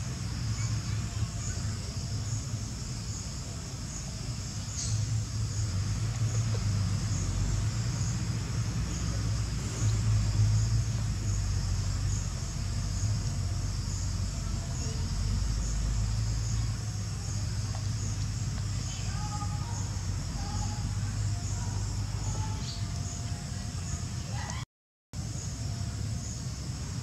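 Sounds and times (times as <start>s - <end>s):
steady low rumble: 0.0s - 24.3s
insects trilling: 0.0s - 24.6s, 25.2s - 27.0s.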